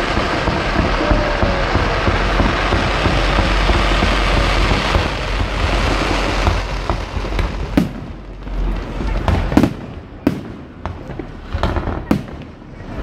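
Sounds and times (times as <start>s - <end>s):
fireworks crackling: 0.0s - 13.0s
low rumble of fireworks: 0.0s - 13.0s.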